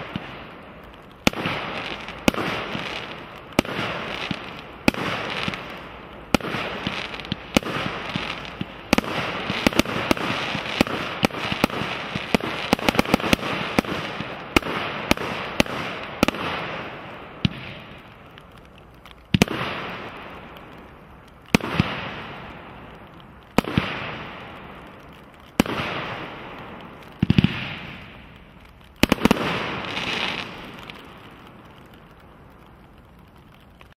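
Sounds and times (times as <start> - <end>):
fireworks bangs: 0.0 - 32.8
fireworks crackle: 0.0 - 33.9.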